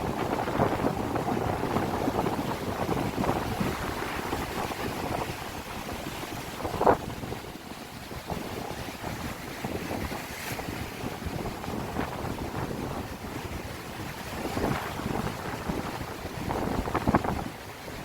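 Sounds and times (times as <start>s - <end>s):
sea waves washing against rocks: 0.0s - 18.0s
wind buffeting microphone: 0.0s - 18.0s.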